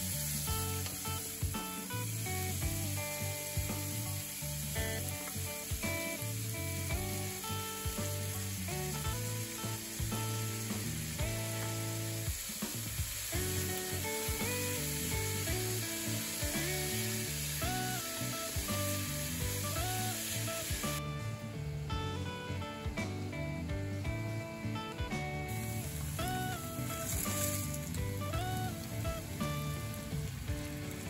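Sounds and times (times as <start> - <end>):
food sizzling in frying pan: 0.0 - 22.6, 23.9 - 31.0.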